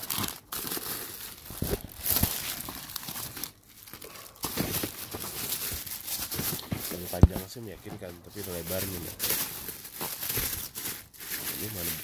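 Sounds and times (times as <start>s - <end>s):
packaging rustling in cardboard box: 0.0s - 12.0s
plastic wrapping crinkling: 0.0s - 12.0s.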